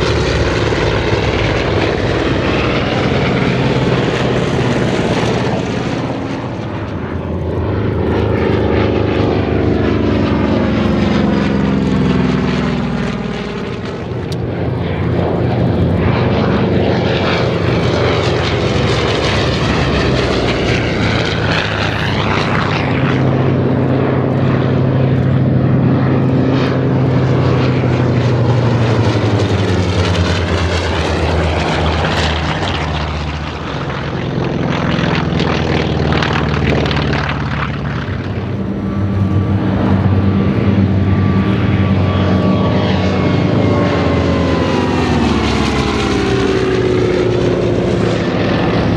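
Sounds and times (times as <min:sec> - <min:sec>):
propeller planes flying past: 0:00.0 - 0:48.9.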